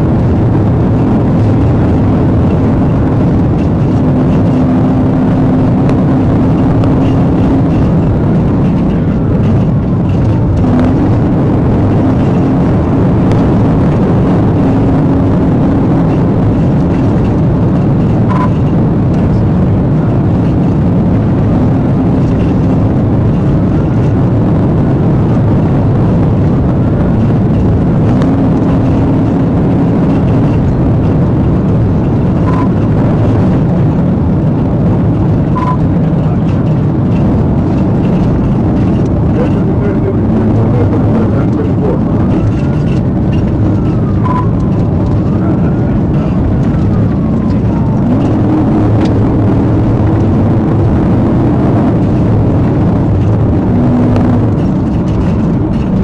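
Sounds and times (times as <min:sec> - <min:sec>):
car engine at high speed: 0:00.0 - 0:56.0
road and wind noise: 0:00.0 - 0:56.0.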